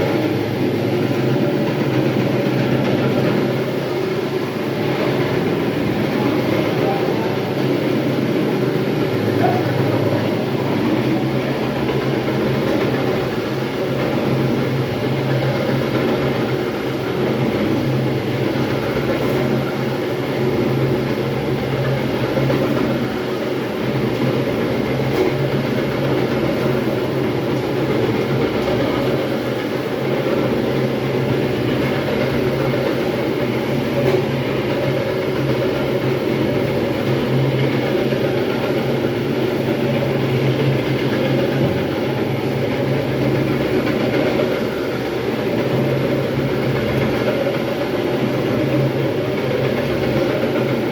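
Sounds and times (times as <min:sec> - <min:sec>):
floor grinding machine running: 0:00.0 - 0:50.9.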